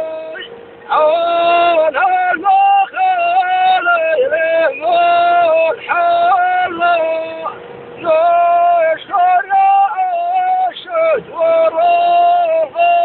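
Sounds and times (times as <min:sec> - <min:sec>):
high singing voice: 0:00.0 - 0:13.0.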